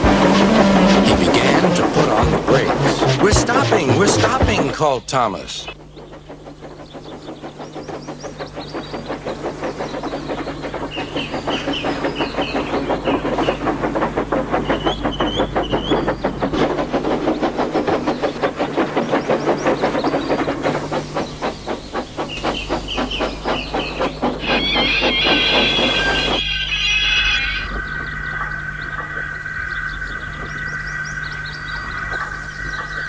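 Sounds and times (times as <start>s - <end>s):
freight cars rattling on rails: 0.0s - 26.6s.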